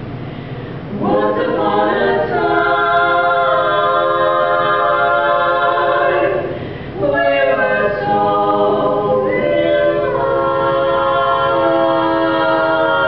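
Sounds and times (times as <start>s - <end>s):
low room rumble: 0.0s - 13.0s
women singing in close harmony: 0.9s - 13.0s.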